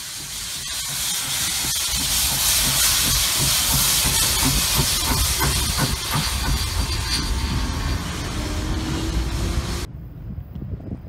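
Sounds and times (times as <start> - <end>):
locomotive exhaust hissing: 0.0 - 9.9.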